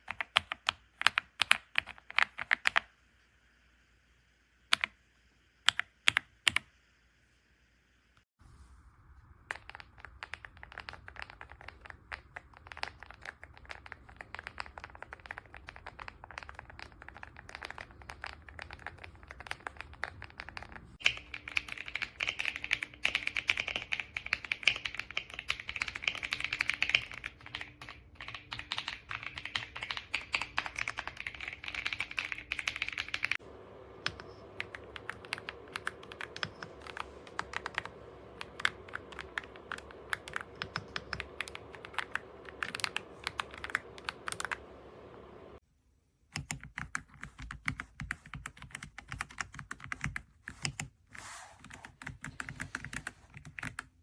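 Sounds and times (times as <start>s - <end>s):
mechanical keyboard typing: 0.0s - 2.9s, 4.7s - 4.9s, 5.7s - 6.7s, 9.5s - 45.6s, 46.3s - 50.9s, 51.6s - 54.0s.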